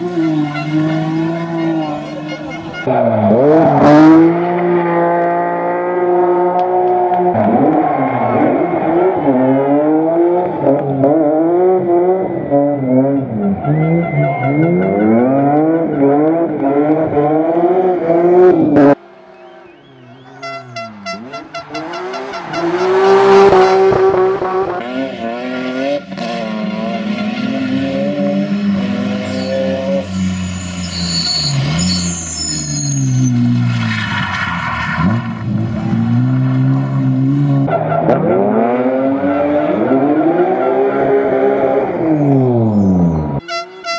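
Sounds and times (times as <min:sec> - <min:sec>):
rally car engine revving: 0:00.0 - 0:43.4.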